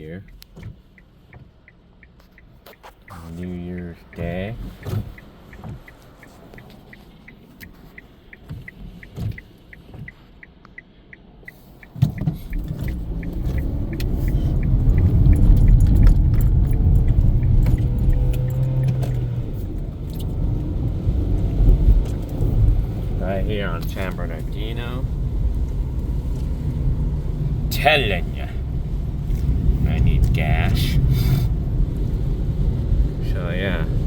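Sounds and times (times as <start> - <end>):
car engine: 0.0 - 34.0
turn signal relay ticking: 0.0 - 34.0.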